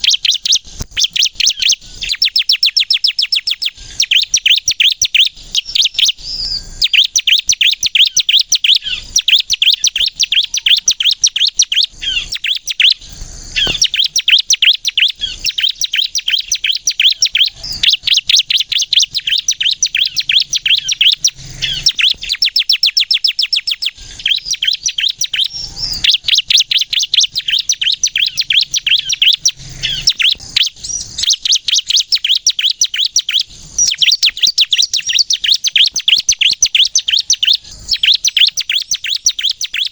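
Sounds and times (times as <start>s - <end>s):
bird singing sharp chattering: 0.0s - 39.9s.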